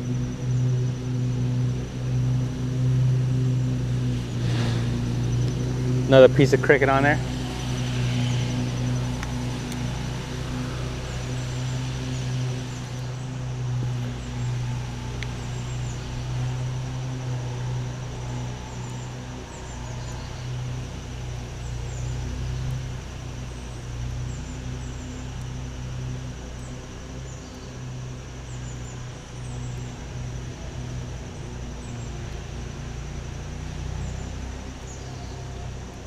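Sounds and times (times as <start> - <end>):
lawn mower engine droning: 0.0 - 36.0.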